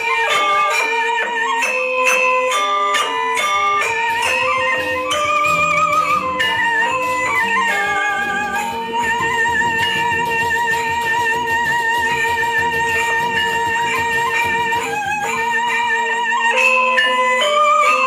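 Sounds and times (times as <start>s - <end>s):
wavering melody over drone: 0.0s - 18.0s.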